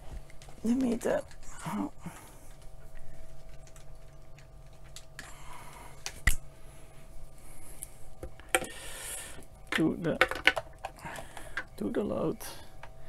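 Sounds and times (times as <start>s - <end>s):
cable rustling: 0.0s - 13.0s
faint steady hum: 0.0s - 13.0s.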